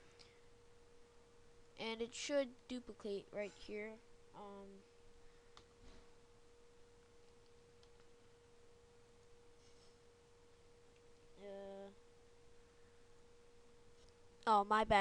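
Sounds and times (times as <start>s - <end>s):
faint electrical whine: 0.0s - 15.0s.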